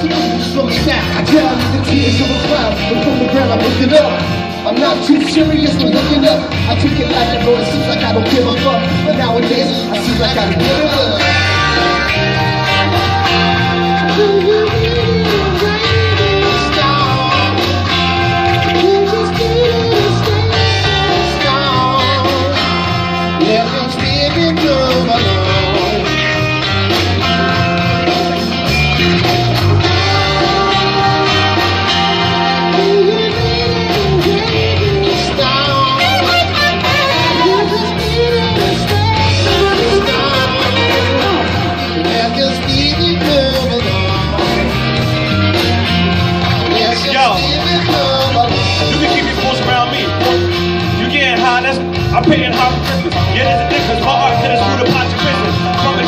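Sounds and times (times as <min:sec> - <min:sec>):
bass line: 0:00.0 - 0:56.0
guitar: 0:00.0 - 0:56.0
person singing: 0:00.0 - 0:56.0
rock-tinged hip-hop music: 0:00.0 - 0:56.0.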